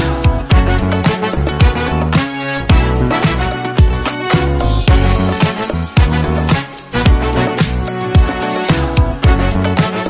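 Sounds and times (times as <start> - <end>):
funk music with bass drum: 0.0 - 10.0.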